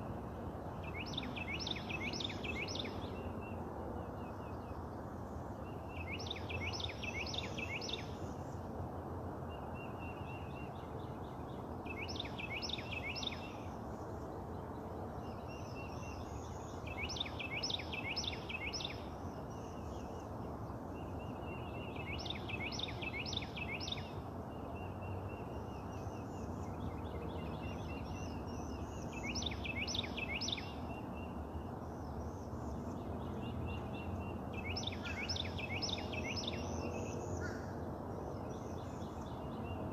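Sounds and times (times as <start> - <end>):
outdoor background hiss: 0.0 - 39.9
songbird whistled song: 0.8 - 4.8, 5.6 - 8.5, 9.5 - 13.8, 15.2 - 20.3, 20.9 - 37.6.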